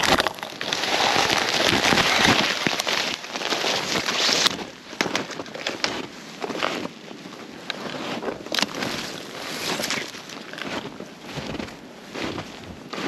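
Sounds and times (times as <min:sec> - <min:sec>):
snowshoe footsteps crunching snow: 0:00.0 - 0:13.0.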